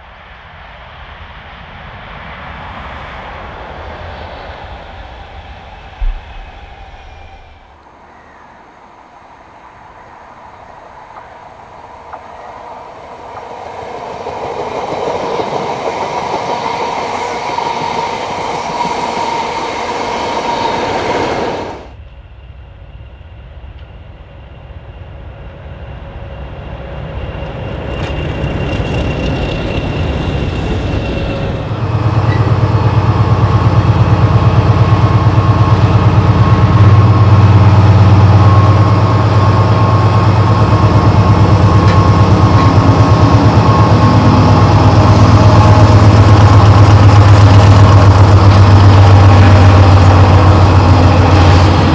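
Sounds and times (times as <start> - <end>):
diesel locomotive engine throbbing: 0.0 - 51.9
train approaching with rumble: 0.0 - 51.9.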